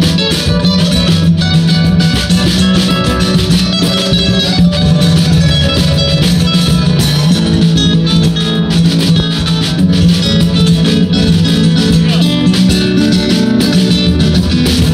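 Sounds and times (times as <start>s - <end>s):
two acoustic guitars playing: 0.0s - 14.9s.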